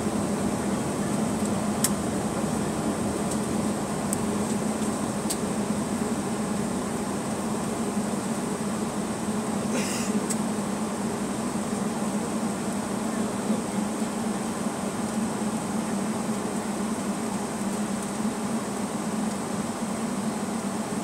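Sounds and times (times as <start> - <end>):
jet engines idling: 0.0 - 21.0.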